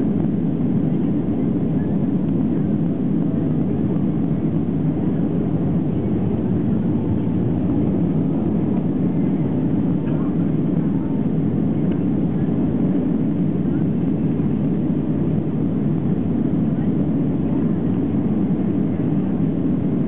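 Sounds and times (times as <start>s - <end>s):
airliner cabin engine and airflow rush: 0.0s - 20.0s.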